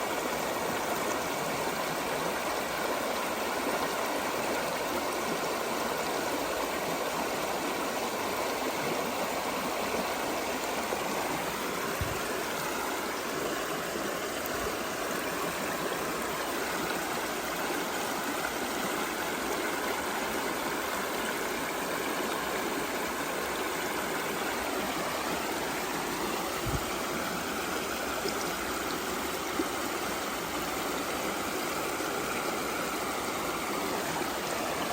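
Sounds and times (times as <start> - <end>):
creek water running over rocks: 0.0 - 34.9.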